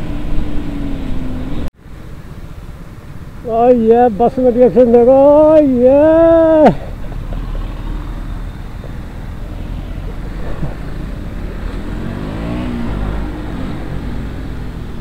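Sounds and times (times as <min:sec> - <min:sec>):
motorcycle engine rumble: 0:00.0 - 0:15.0
road and wind noise: 0:00.0 - 0:15.0.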